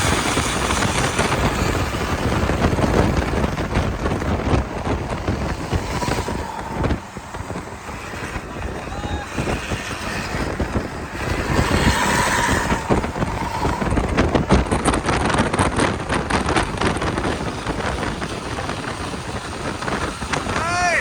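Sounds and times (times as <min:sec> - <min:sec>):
moving vehicle noise: 0:00.0 - 0:21.0
wind buffeting microphone: 0:00.0 - 0:21.0.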